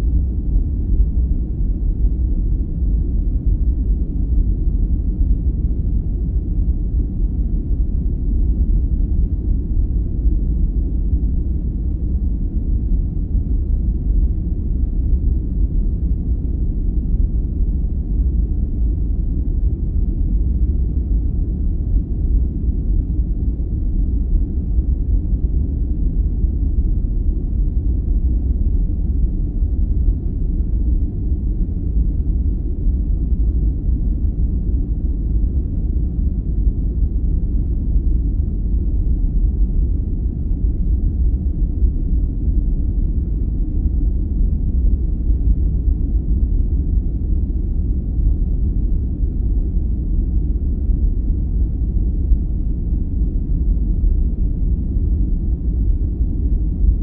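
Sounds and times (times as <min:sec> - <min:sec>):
deep rumbling white noise: 0:00.0 - 0:57.0.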